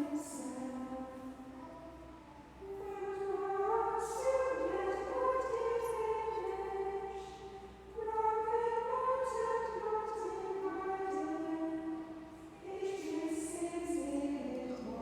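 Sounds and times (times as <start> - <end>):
choir singing: 0.0 - 1.9, 2.6 - 15.0.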